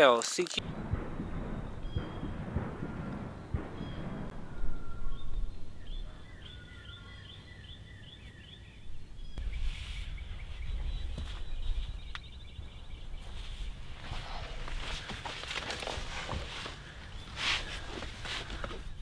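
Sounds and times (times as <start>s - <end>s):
songbird chirping: 0.6s - 19.0s.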